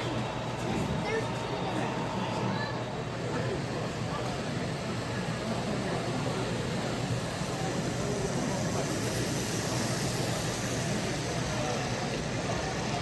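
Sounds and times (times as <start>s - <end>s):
murmur of crowd talking: 0.0s - 13.0s.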